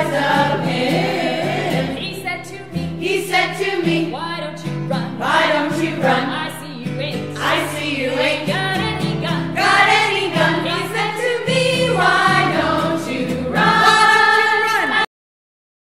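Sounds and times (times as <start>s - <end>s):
voices singing held notes: 0.0s - 4.1s, 4.8s - 6.6s, 7.3s - 15.1s.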